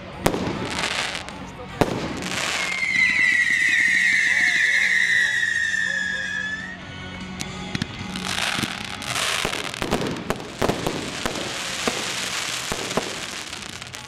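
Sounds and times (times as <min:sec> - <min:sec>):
fireworks bangs and crackles: 0:00.0 - 0:06.5, 0:07.4 - 0:14.0
firework rushing hiss: 0:00.2 - 0:06.6, 0:08.1 - 0:14.0.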